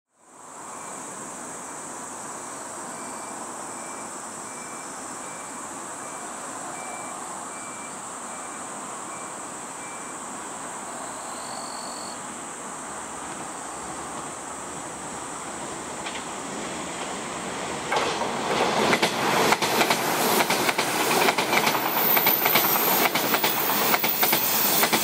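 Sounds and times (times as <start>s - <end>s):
insects chirring: 0.3s - 25.0s.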